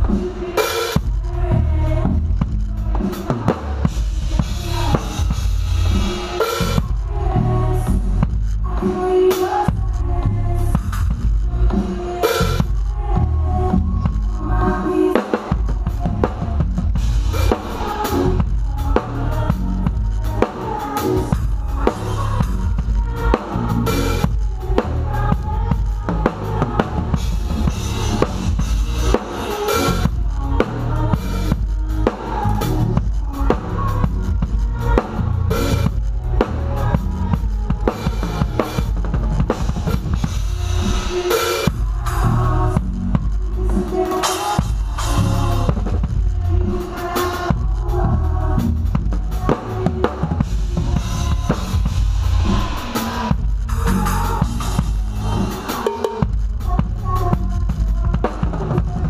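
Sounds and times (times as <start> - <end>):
drum kit playing groove: 0.0 - 59.0
bass and keys: 1.0 - 59.0.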